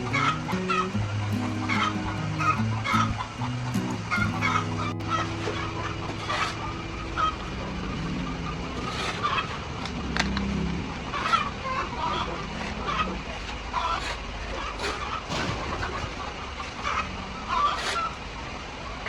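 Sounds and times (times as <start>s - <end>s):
chickens clucking: 0.0s - 18.8s
low mechanical hum: 0.0s - 19.0s.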